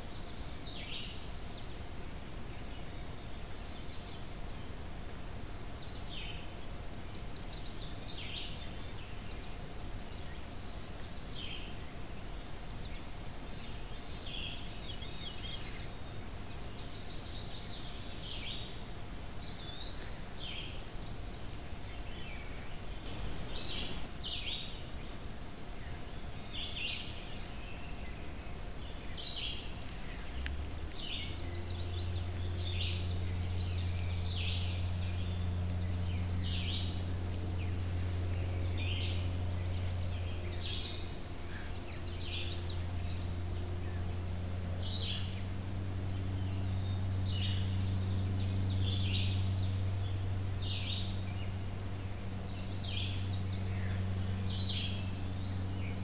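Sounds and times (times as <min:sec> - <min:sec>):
faint steady hum: 0:00.0 - 0:56.0
low steady drone: 0:00.0 - 0:56.0
songbirds chirping: 0:00.0 - 0:56.0.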